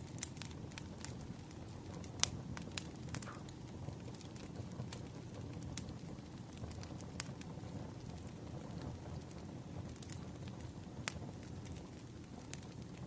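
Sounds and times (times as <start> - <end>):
firewood crackling and popping: 0.0 - 13.0
low rumble of fire: 0.0 - 13.0.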